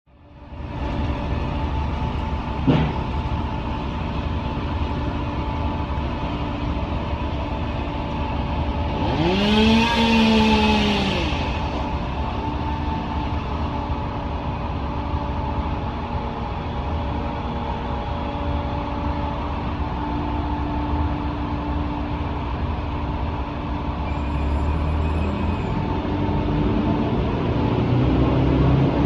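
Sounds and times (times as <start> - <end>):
large engine droning: 0.1 - 29.0.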